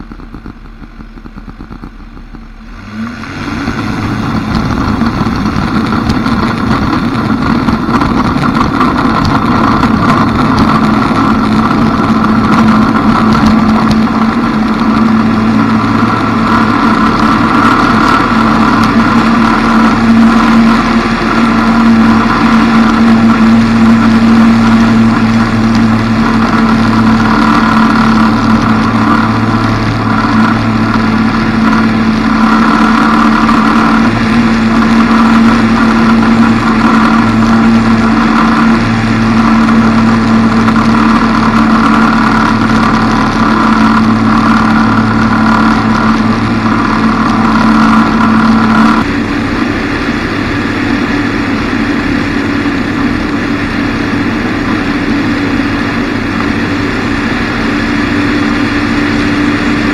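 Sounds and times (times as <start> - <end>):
microlight engine and propeller drone: 0.0 - 59.9.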